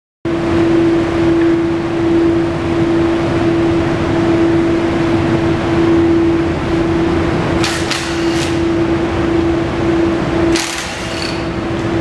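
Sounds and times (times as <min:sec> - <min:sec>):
steady machine hum: 0:00.3 - 0:12.0.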